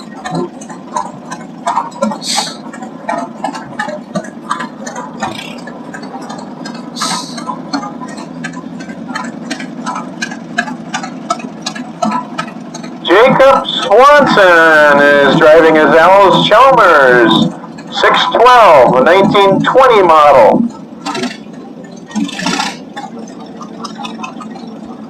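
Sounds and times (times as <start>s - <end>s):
tractor engine driving past: 0.0s - 25.0s.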